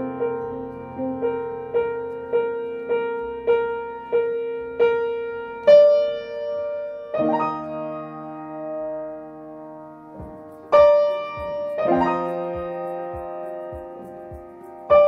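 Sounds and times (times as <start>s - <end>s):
piano notes and chord: 0.0s - 15.0s.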